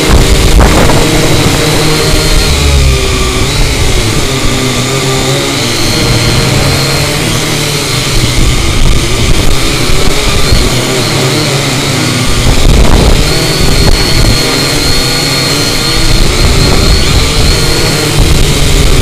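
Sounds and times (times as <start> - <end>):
drone motors whining: 0.0 - 19.0
wind buffeting microphone: 0.0 - 19.0.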